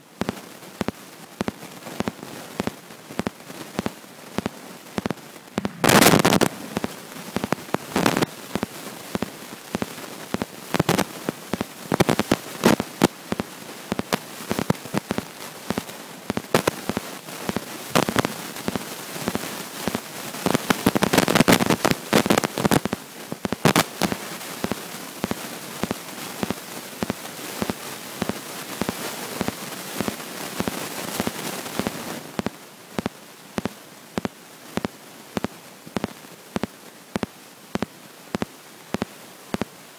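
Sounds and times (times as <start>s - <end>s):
steady hiss: 0.0s - 39.9s
underwater crackling and popping: 0.2s - 39.7s.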